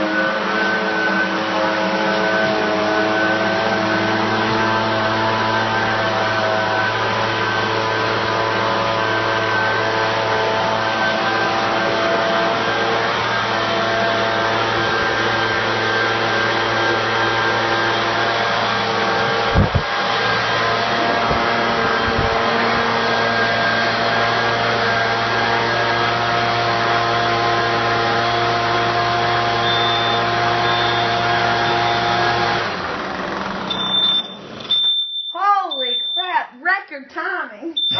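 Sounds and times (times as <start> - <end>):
motor blowing air: 0.0 - 34.8.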